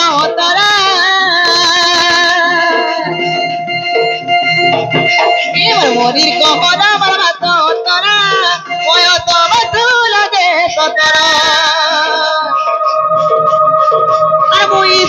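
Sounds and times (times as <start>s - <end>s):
person singing folk song: 0.0s - 3.6s, 5.3s - 15.0s
dhol drum: 0.0s - 15.0s
held accompaniment notes: 0.0s - 15.0s.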